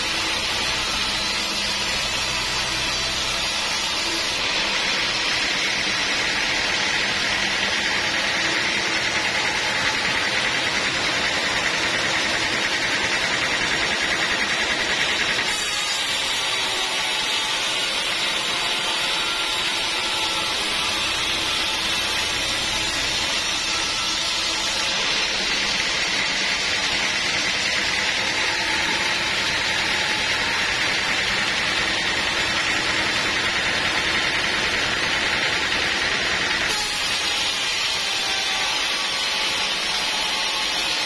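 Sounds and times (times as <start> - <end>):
sawmill saw cutting wood: 0.0 - 41.0.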